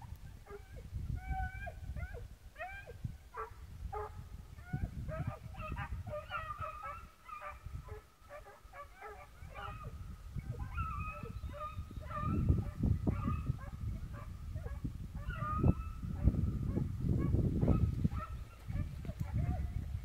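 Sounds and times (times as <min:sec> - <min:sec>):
hounds baying: 0:00.4 - 0:19.7.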